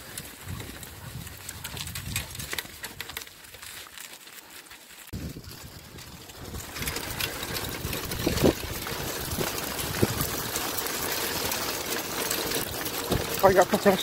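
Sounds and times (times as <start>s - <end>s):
wheels and paws on gravel: 0.0s - 14.0s.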